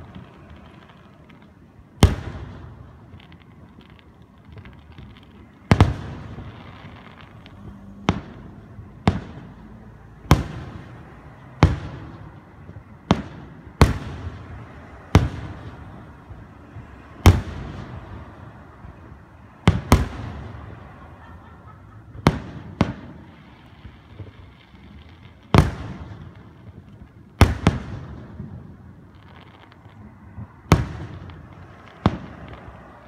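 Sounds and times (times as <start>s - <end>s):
firework shells booming: 2.0s - 33.0s.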